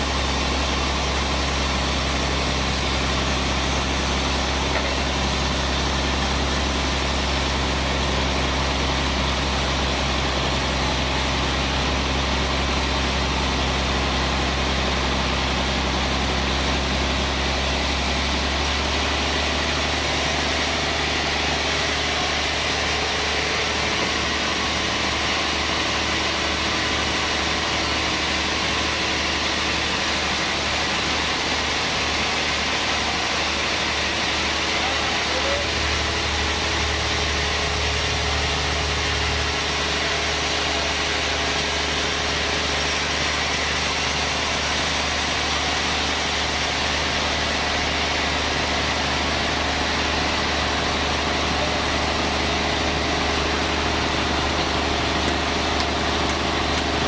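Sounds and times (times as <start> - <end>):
band sawmill running: 0.0 - 57.0.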